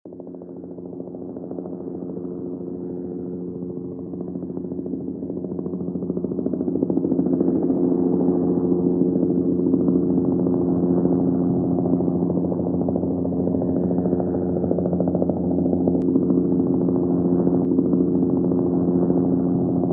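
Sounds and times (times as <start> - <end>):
helicopter rotor drone: 0.1 - 19.9.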